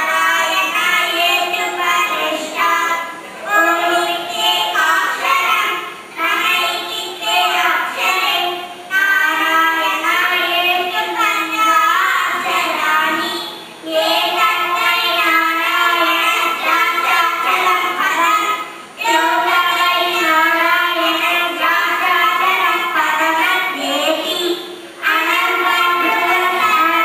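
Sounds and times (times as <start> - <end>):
girls singing together: 0.0 - 27.0.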